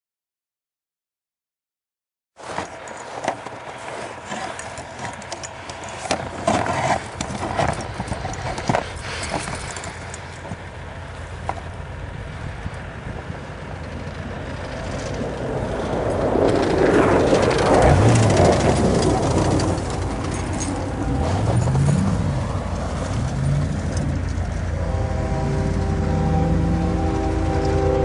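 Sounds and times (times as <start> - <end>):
freight train rumble: 2.5 - 28.0.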